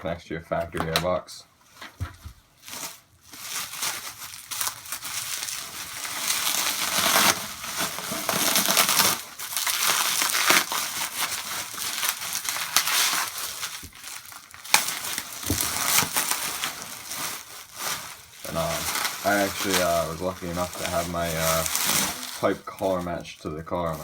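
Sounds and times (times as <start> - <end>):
packing material crinkling: 2.4 - 24.0.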